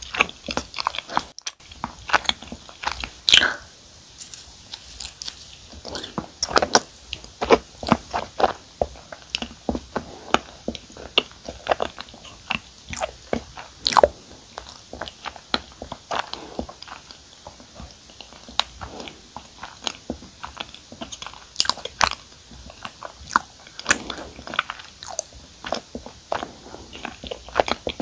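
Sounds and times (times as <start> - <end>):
person chewing with mouth clicks: 0.0 - 3.7, 4.3 - 28.0.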